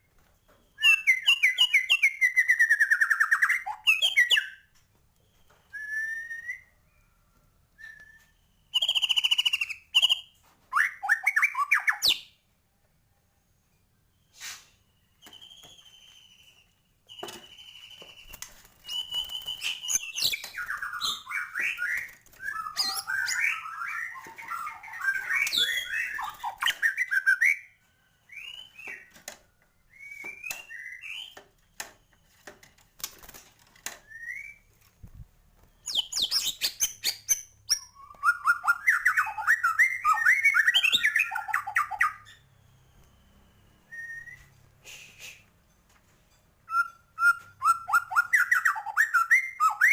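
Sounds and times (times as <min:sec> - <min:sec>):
bird singing whistled phrases: 0:00.7 - 0:04.7, 0:05.3 - 0:07.2, 0:07.8 - 0:12.3, 0:14.2 - 0:29.1, 0:29.9 - 0:31.4, 0:34.0 - 0:34.7, 0:35.7 - 0:45.4, 0:46.7 - 0:49.9.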